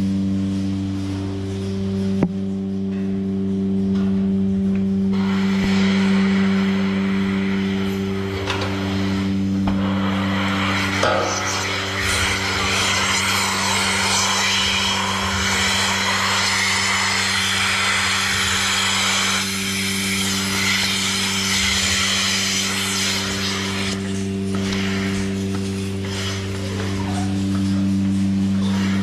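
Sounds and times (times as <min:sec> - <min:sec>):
machinery hum: 0:00.0 - 0:29.0.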